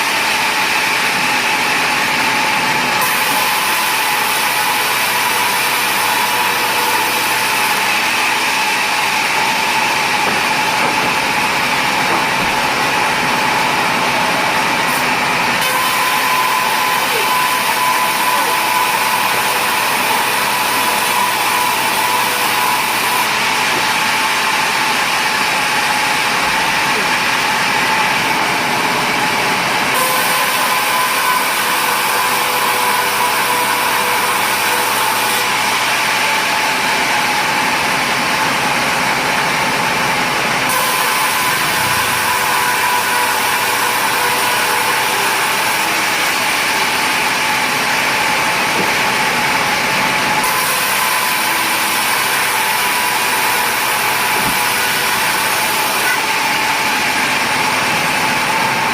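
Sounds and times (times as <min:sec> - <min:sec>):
sawmill machinery running with whine: 0:00.0 - 0:58.9.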